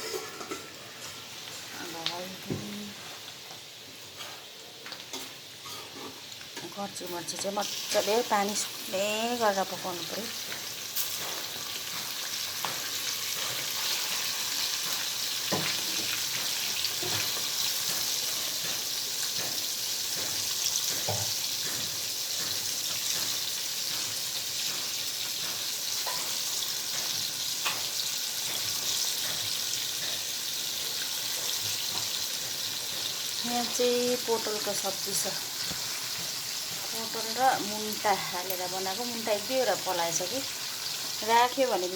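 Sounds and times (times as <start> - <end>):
chicken sizzling in a pan: 0.0 - 41.9.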